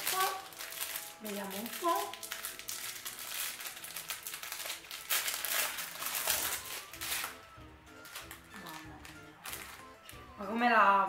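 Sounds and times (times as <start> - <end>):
plastic wrapper crinkling: 0.0 - 10.5.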